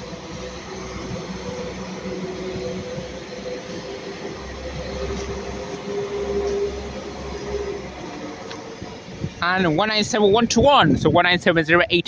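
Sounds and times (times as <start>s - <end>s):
diesel train passing: 0.0s - 11.7s.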